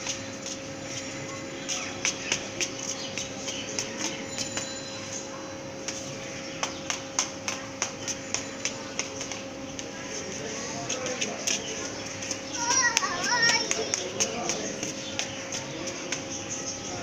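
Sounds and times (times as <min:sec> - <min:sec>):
sandals clicking on concrete: 0:00.0 - 0:04.7, 0:05.8 - 0:17.0
steady hum: 0:00.0 - 0:17.0.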